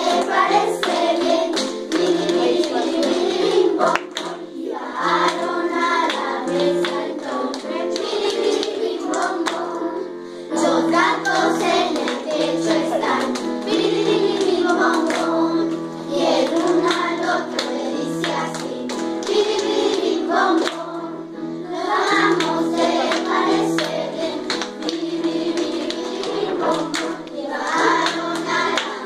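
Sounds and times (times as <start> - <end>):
children's choir singing: 0.0 - 29.0.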